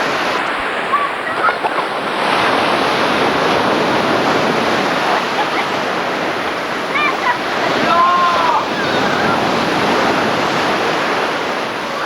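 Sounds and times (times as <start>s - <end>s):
sea waves washing: 0.0s - 12.0s
wind on microphone: 0.0s - 12.0s.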